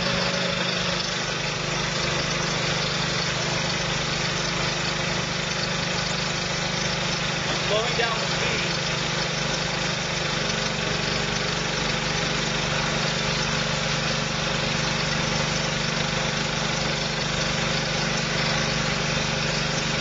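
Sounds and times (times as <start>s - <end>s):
texture sprayer motor running: 0.0s - 20.0s.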